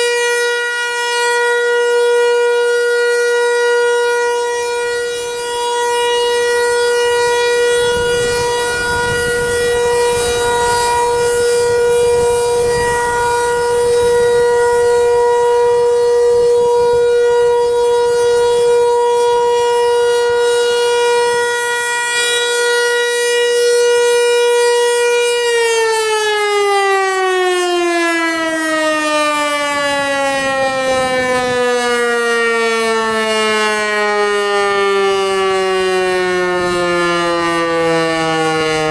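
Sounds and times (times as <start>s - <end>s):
warning siren winding down: 0.0s - 38.9s.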